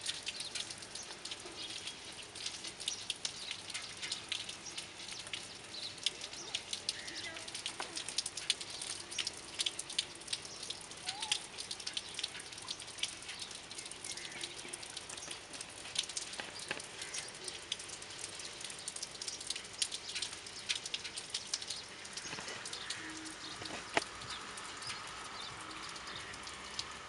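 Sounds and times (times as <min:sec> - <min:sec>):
drips ticking: 0:00.0 - 0:27.0
rain on wet paving: 0:00.0 - 0:27.0.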